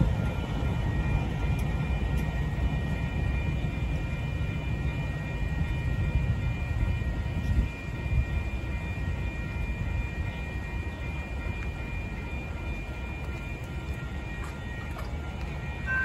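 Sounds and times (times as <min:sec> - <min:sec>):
crossing signal bell ringing: 0:00.0 - 0:16.0
train rumbling: 0:00.0 - 0:16.0.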